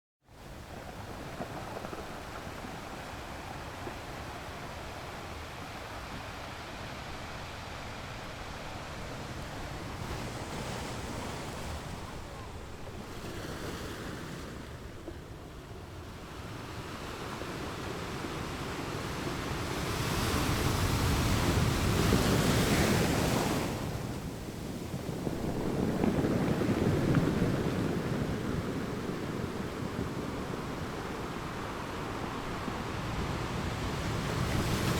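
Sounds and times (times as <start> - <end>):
waves washing onto rocky beach: 0.4 - 34.9.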